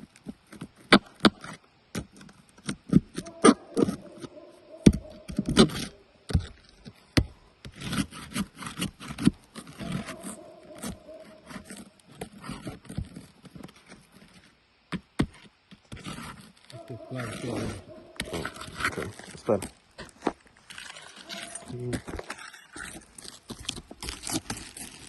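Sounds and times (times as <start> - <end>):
hand tools scraping on shingles: 0.0 - 25.0.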